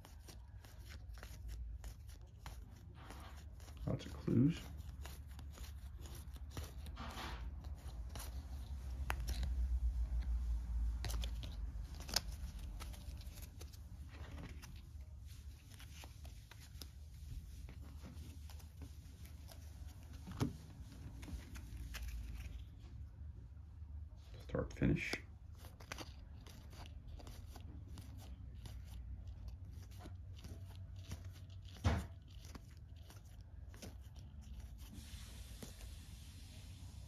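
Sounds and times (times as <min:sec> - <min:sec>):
cards shuffling and sliding: 0:00.0 - 0:22.8, 0:24.3 - 0:37.0.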